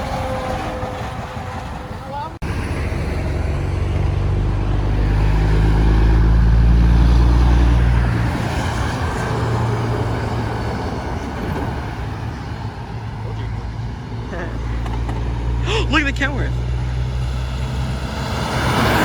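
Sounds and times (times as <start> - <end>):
heavy truck passing: 0.0 - 19.0.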